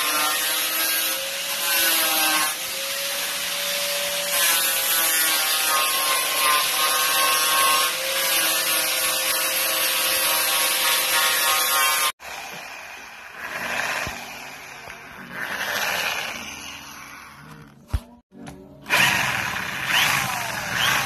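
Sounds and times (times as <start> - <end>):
electric drill boring into wood: 0.0 - 17.4, 18.9 - 21.0.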